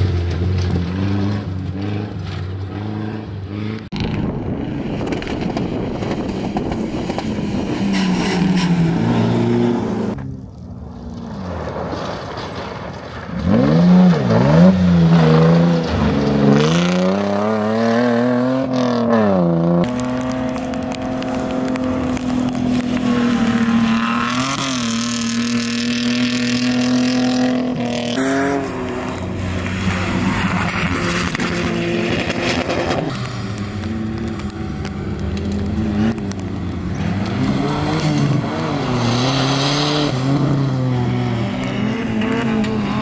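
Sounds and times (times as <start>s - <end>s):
race vehicle engines revving: 0.0s - 43.0s.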